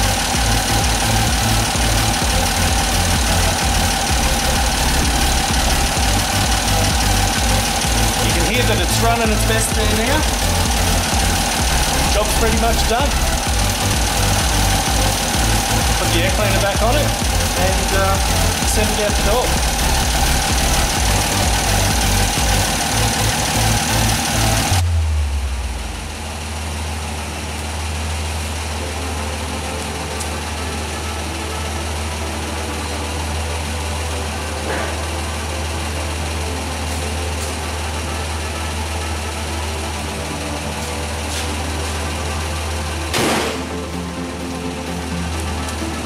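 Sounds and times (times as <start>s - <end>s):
car engine idling: 0.0s - 46.0s
low hum: 0.0s - 46.0s.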